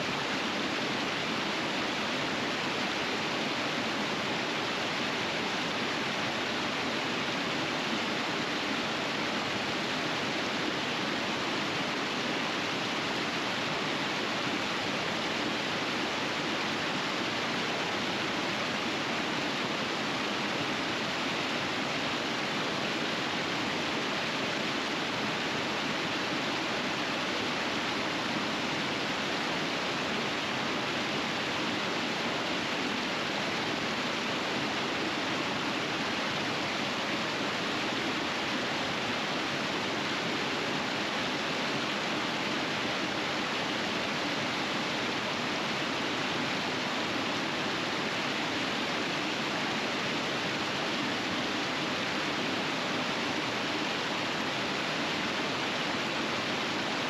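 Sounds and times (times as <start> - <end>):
river rapids rushing: 0.0 - 57.0.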